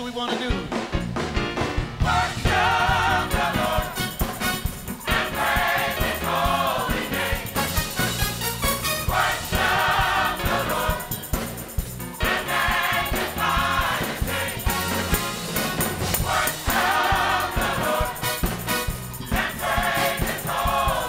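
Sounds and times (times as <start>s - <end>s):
instrumental accompaniment with beat: 0.0s - 21.0s
gospel choir singing: 1.9s - 21.0s.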